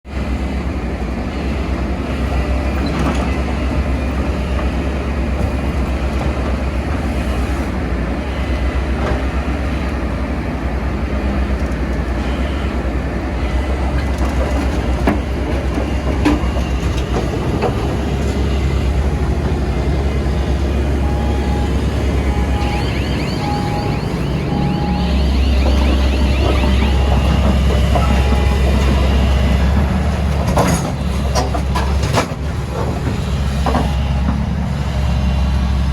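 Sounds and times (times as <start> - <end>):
excavator diesel engine rumbling: 0.1 - 35.9.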